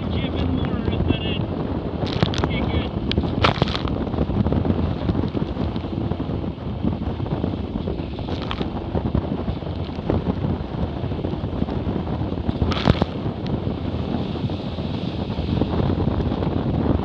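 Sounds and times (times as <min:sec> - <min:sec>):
water rushing past hulls: 0:00.0 - 0:17.0
wind buffeting microphone: 0:00.0 - 0:17.0.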